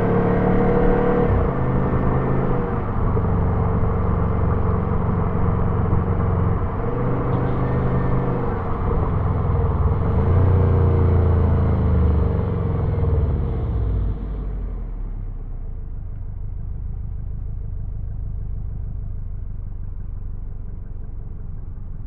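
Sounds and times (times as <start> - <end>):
car engine: 0.0 - 22.0
road noise: 0.0 - 22.0.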